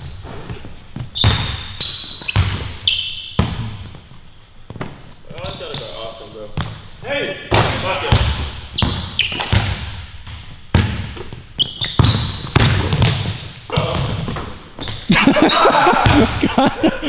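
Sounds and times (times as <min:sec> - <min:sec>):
basketball bouncing in a hall: 0:00.0 - 0:17.0.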